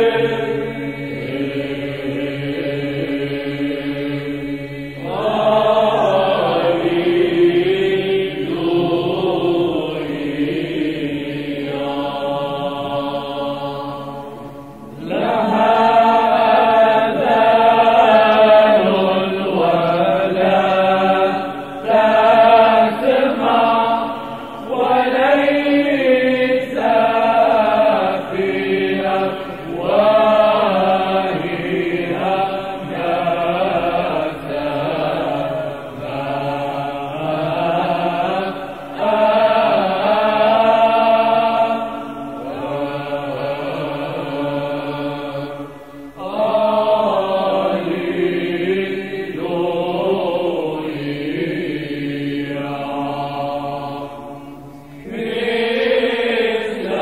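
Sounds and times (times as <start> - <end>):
chanters singing a hymn: 0.0 - 57.0
low held vocal drone: 0.0 - 57.0.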